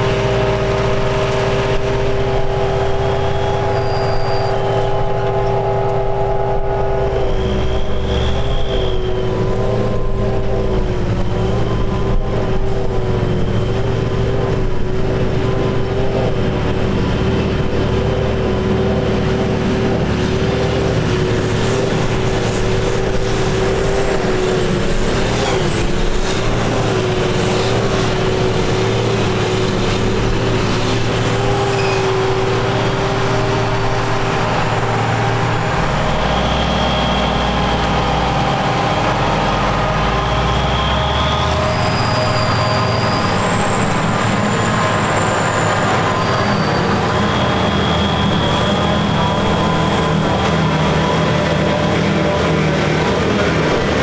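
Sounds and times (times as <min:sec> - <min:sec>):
held machine whine: 0:00.0 - 0:54.0
machinery drone: 0:00.0 - 0:54.0.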